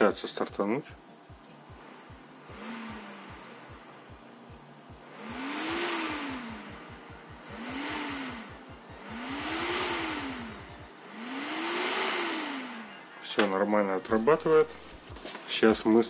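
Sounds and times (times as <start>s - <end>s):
computer cooling fan whirring: 0.0s - 16.0s.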